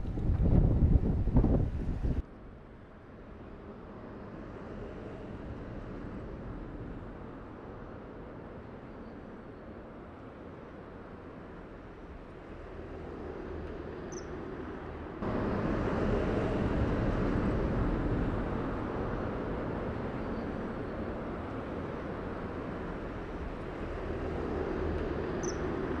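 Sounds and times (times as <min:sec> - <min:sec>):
rushing outdoor noise: 0:00.0 - 0:26.0.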